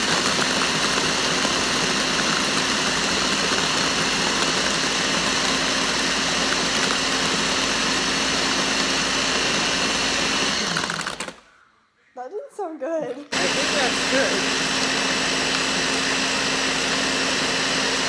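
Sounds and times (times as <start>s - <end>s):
blender crushing ice: 0.0s - 11.4s, 13.3s - 18.0s.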